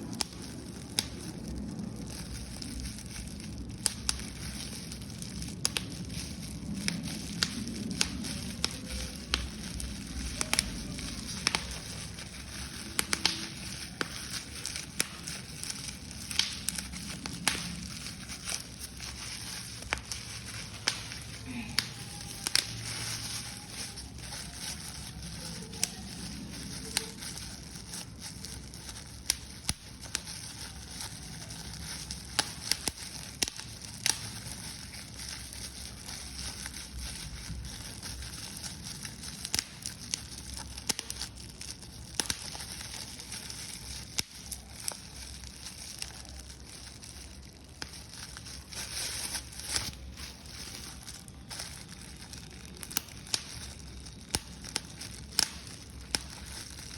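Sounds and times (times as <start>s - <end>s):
paper being crumpled: 0.0s - 56.9s.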